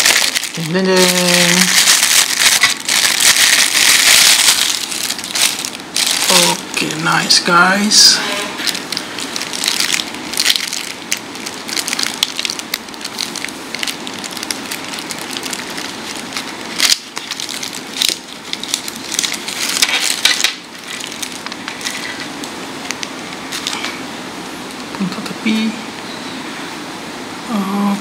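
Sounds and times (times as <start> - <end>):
plastic wrapper crinkling: 0.0 - 7.5, 8.6 - 24.0.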